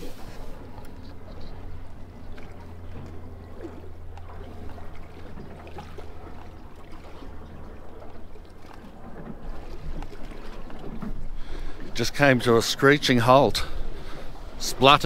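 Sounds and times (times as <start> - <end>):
steady low hum: 0.0 - 15.0
water lapping against boat hull: 0.0 - 15.0.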